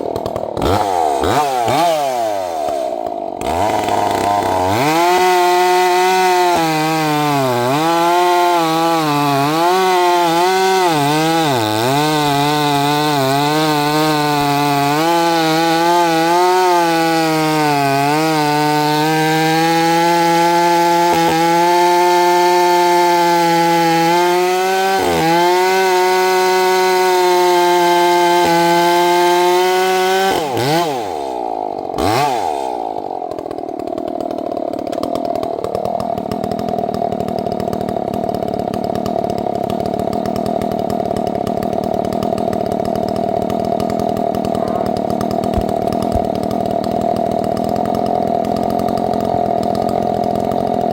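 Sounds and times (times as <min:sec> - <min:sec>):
chainsaw cutting a log: 0:00.0 - 0:50.9.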